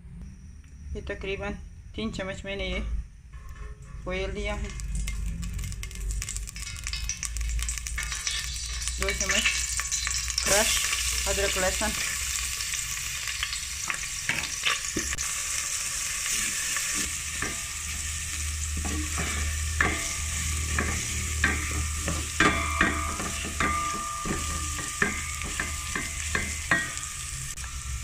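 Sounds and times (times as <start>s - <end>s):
ginger and garlic sizzling in oil: 4.3s - 28.0s.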